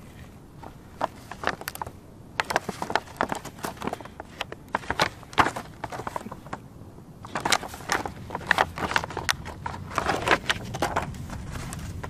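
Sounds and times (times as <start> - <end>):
plastic box clicking and crackling: 0.6 - 6.6, 7.2 - 12.0.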